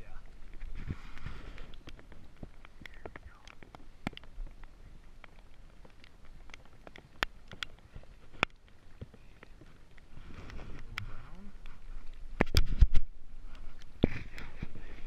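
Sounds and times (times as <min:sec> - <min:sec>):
fish splashing and thrashing: 0:00.3 - 0:15.0.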